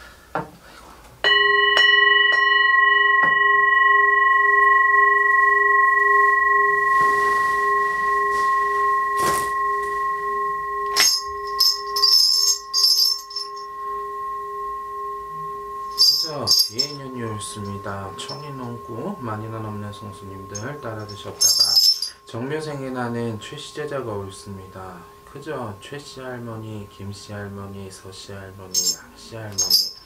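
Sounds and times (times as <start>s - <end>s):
singing bowl ringing: 1.2s - 30.0s
small bells jingling: 1.3s - 30.0s.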